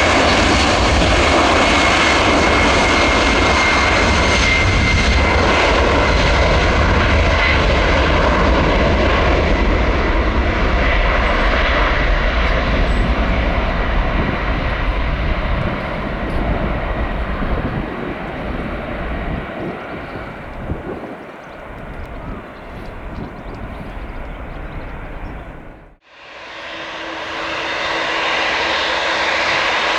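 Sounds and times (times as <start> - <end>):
jet airliner taking off: 0.0 - 29.9.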